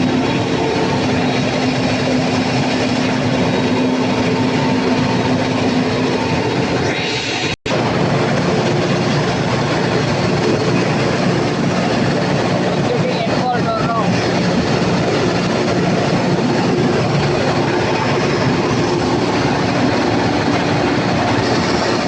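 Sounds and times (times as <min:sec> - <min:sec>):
diesel generator engine running: 0:00.0 - 0:22.0
steady hum: 0:00.0 - 0:22.0.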